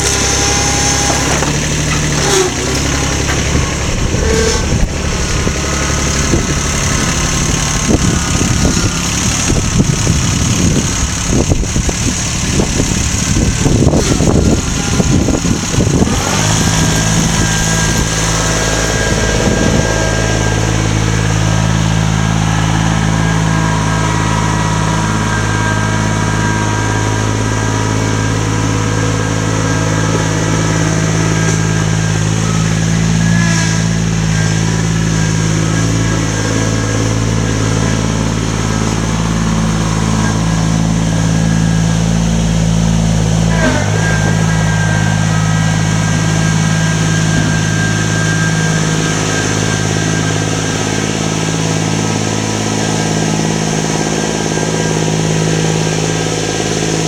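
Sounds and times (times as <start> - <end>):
engine humming steadily: 0.0 - 57.0.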